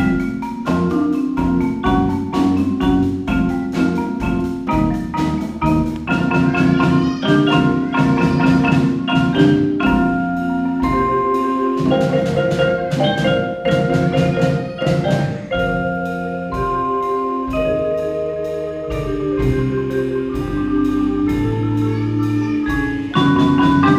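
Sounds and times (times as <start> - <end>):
marimba played with mallets: 0.0 - 23.9.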